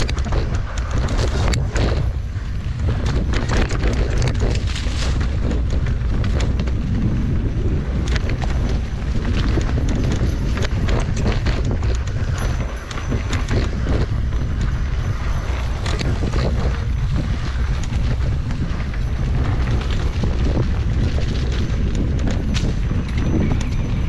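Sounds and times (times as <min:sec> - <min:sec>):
mountain bike rattling: 0:00.0 - 0:24.0
wind rumble on microphone: 0:00.0 - 0:24.0.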